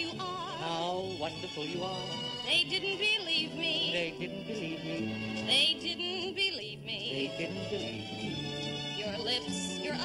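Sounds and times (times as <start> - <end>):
slow love song accompaniment: 0.0 - 10.0.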